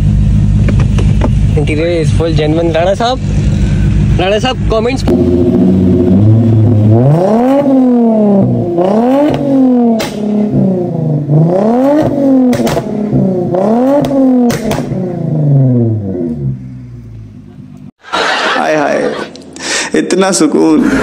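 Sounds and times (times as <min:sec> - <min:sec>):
exhaust cracks: 0:00.0 - 0:17.9
car engine revving: 0:00.0 - 0:19.7.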